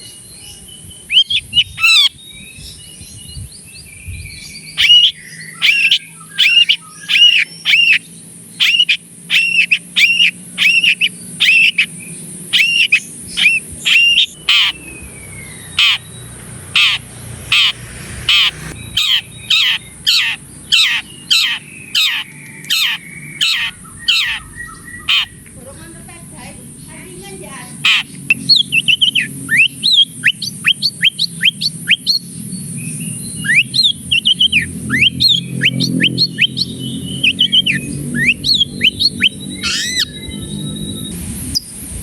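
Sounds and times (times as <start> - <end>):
shrike calling in repeated notes: 1.1 - 2.2, 4.7 - 25.5, 27.7 - 32.3, 33.4 - 40.8.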